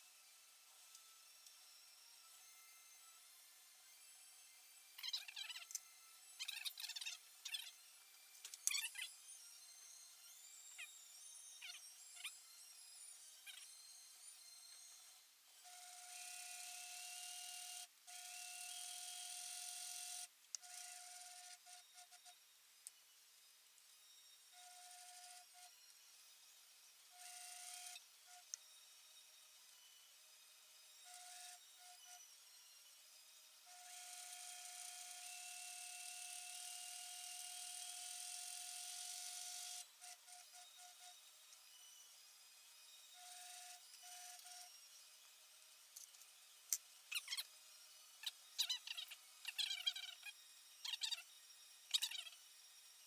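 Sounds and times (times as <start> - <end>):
small electric motor whining: 0.0 - 53.0.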